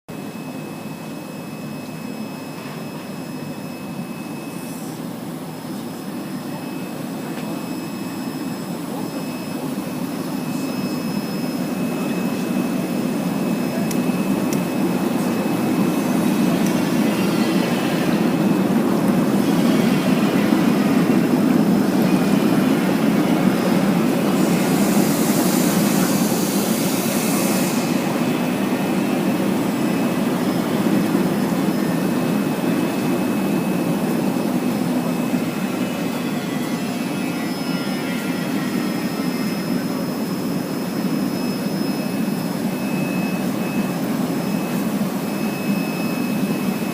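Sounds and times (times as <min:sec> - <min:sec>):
faint steady whine: 0:00.1 - 0:46.9
washing machine churning water: 0:00.1 - 0:46.9.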